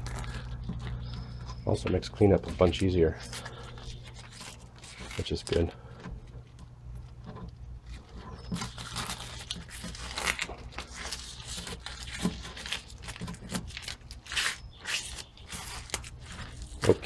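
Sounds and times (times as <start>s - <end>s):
plastic film crinkling and tearing: 0.0s - 5.8s, 7.8s - 17.0s
steady low hum: 0.0s - 17.0s.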